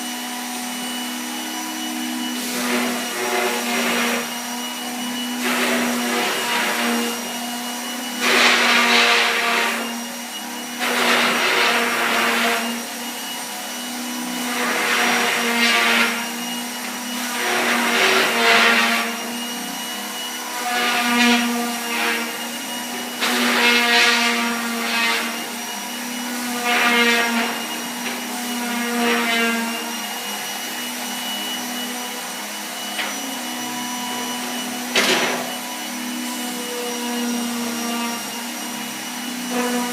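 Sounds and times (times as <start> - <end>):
power sander on wood: 0.0 - 39.9.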